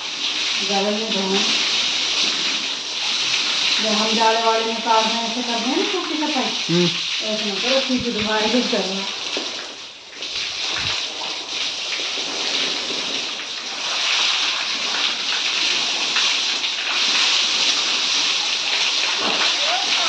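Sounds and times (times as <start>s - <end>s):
hose water spraying on concrete: 0.0s - 20.0s.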